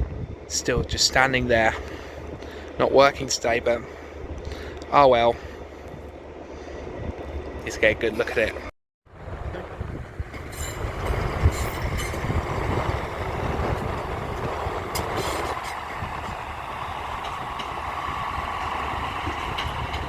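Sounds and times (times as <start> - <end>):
train engine and wheel rumble: 0.0 - 20.0.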